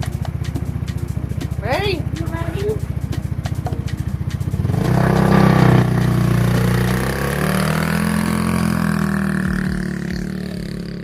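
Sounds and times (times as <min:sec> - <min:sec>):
small vehicle engine pulling away: 0:00.0 - 0:11.0.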